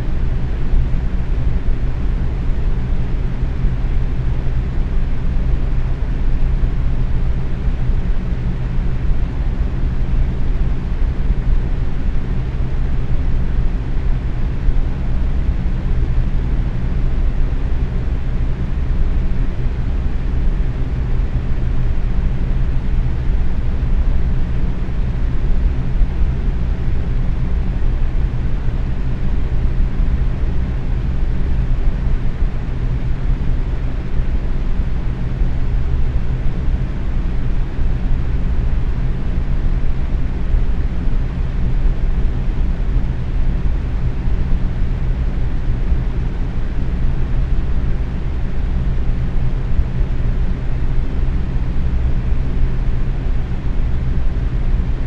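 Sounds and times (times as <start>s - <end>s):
box fan running: 0.0s - 55.0s
faint steady hum: 0.0s - 55.0s.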